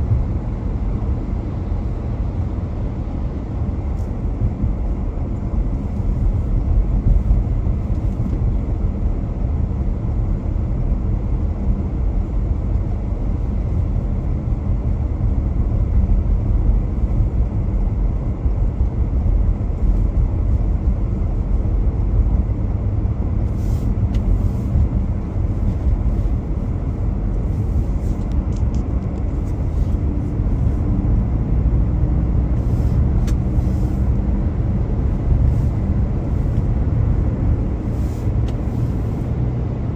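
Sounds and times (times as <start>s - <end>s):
car tyre and engine rumble: 0.0s - 39.9s.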